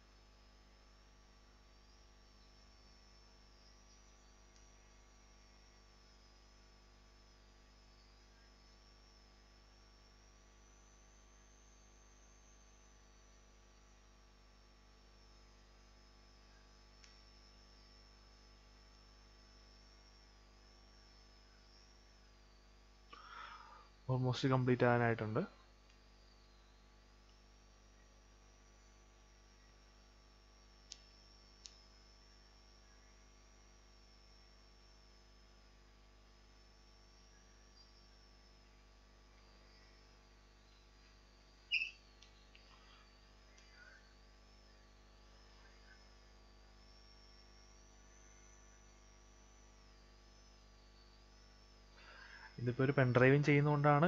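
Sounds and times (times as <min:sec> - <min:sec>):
faint high whine: 0:00.0 - 0:54.0
low electrical hum: 0:00.0 - 0:54.0.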